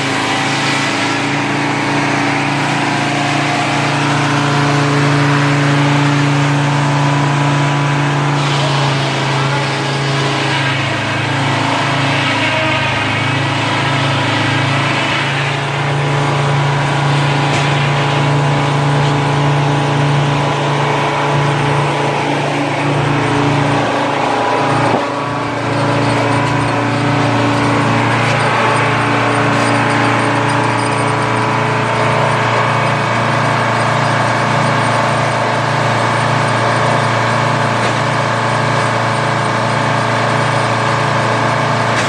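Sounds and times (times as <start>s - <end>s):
engine running: 0.0s - 42.0s
hissing grinding noise: 7.7s - 42.0s.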